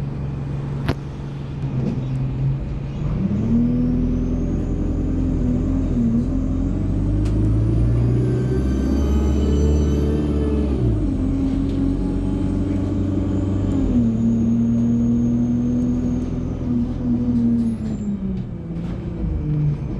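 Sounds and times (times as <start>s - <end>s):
bus diesel engine revving: 1.5s - 19.9s.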